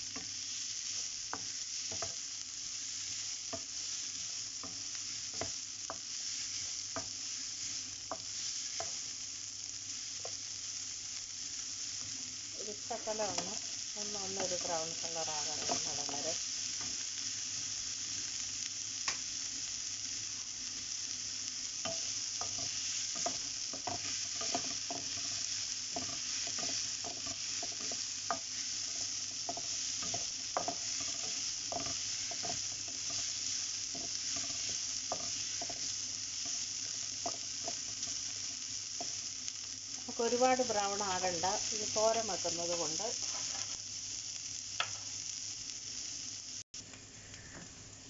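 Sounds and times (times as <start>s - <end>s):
wooden spatula scraping a pan: 0.0s - 17.0s, 21.6s - 43.8s
onions sizzling in hot oil: 0.0s - 48.0s.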